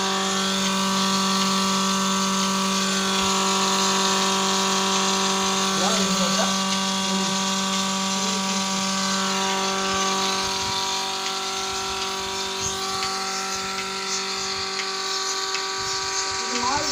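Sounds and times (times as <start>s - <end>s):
electric motor hum: 0.0s - 16.9s
vacuum pump hiss: 0.0s - 16.9s.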